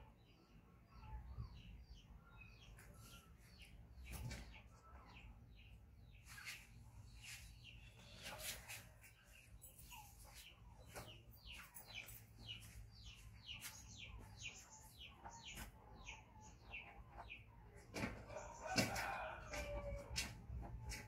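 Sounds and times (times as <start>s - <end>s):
bird chirping: 0.0s - 19.7s.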